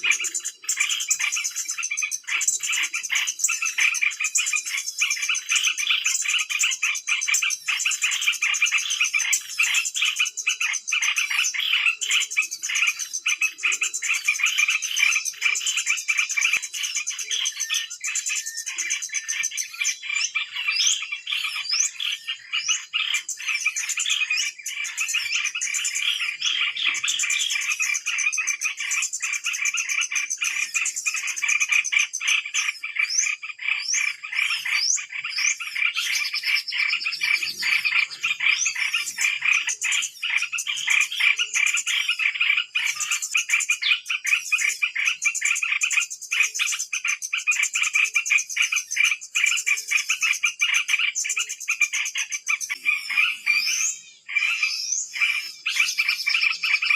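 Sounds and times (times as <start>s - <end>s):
chorus of chattering animal calls: 0.0s - 56.9s.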